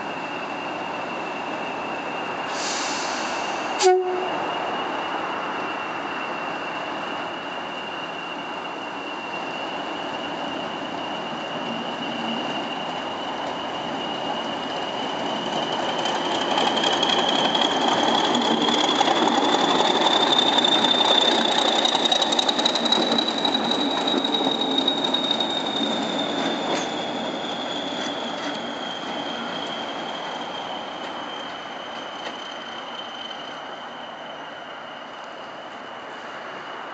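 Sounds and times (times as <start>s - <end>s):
diesel locomotive engine: 0.0s - 36.9s.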